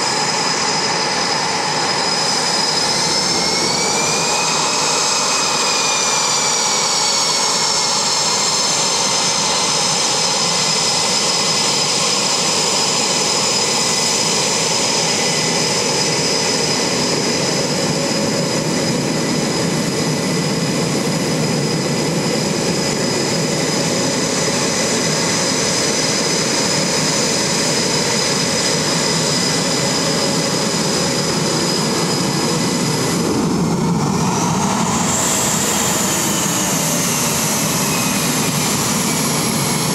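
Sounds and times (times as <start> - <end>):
jet engine rushing roar: 0.0 - 39.9
jet engine whine: 0.0 - 39.9.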